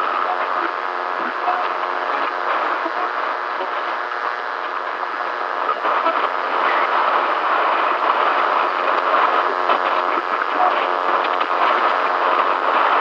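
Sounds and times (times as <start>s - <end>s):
radio static hiss and crackle: 0.0s - 13.0s.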